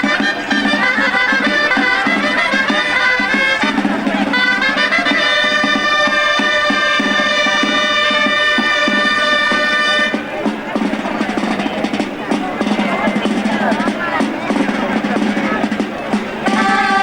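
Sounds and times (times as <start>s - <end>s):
drum beating: 0.0s - 17.0s
reedy shawms playing a melody: 0.0s - 17.0s.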